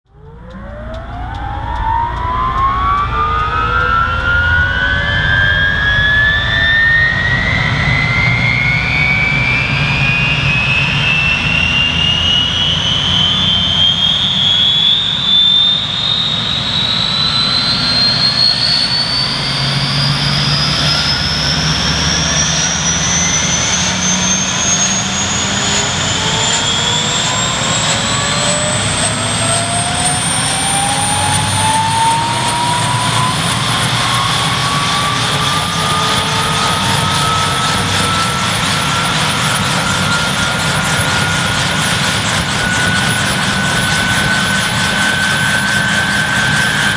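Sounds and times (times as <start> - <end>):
helicopter engine whine rising: 0.1 - 46.9.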